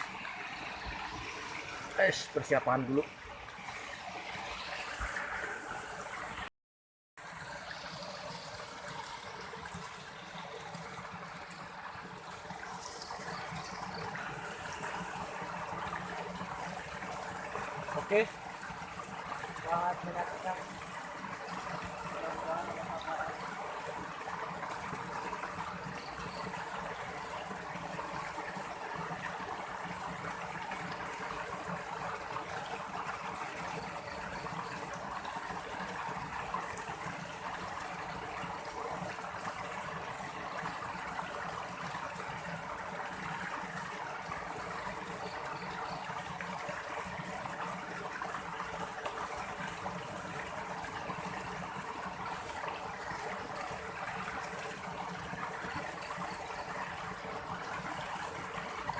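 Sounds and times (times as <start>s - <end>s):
stream rushing: 0.0s - 6.5s, 7.2s - 58.9s.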